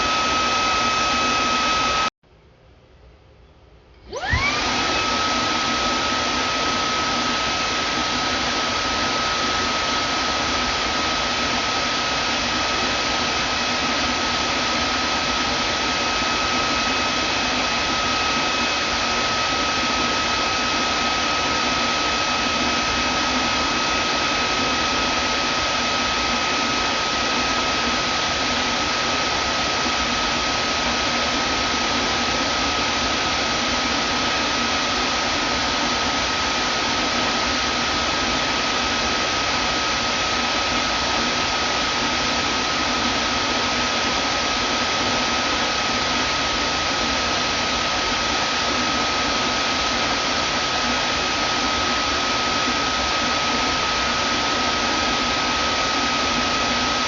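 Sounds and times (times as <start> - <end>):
vacuum cleaner motor running: 0.0 - 2.1, 4.0 - 57.0.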